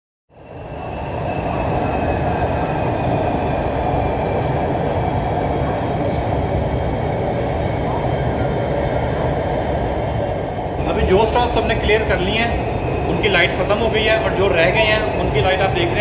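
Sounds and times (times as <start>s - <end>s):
train wheels rumbling on rails: 0.7s - 16.0s.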